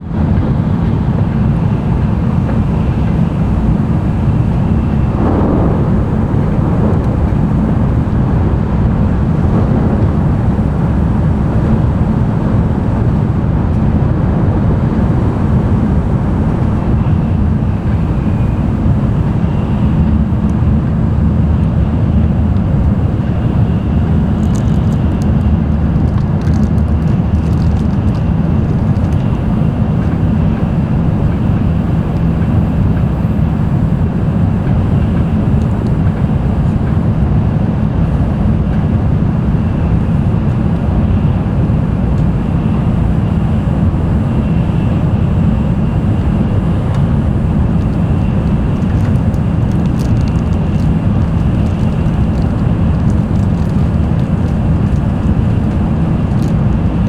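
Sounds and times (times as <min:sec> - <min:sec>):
train cabin rumble at speed: 0:00.0 - 0:57.0.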